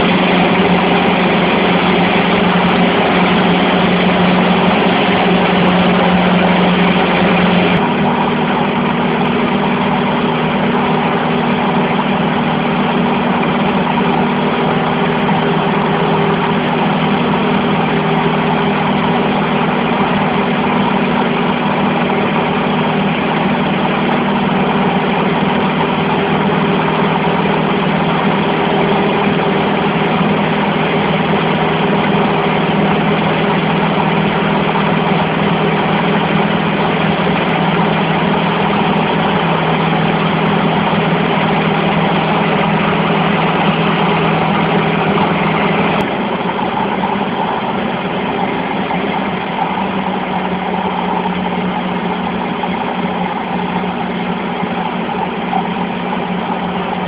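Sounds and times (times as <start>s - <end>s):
airplane engine and propeller droning: 0.0s - 57.0s.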